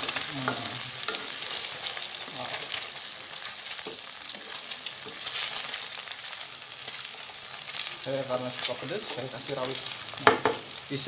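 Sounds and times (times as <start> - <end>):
oil sizzling and popping: 0.0 - 11.0.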